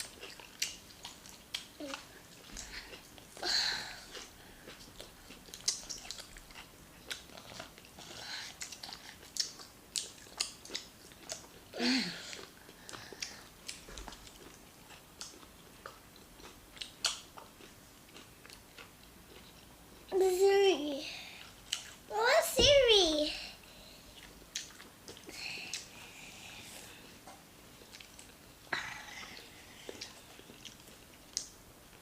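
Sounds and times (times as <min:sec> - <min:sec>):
close chewing and mouth sounds: 0:00.0 - 0:22.2, 0:23.6 - 0:32.0.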